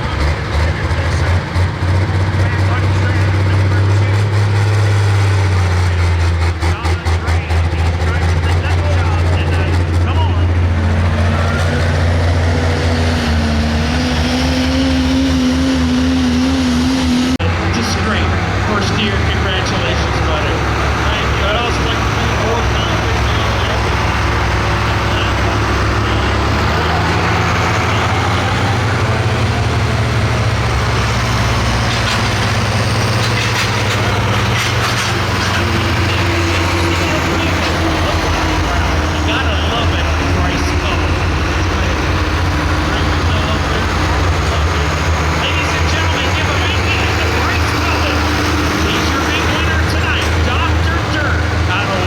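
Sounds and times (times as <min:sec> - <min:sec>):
diesel engine running loud: 0:00.0 - 0:52.0.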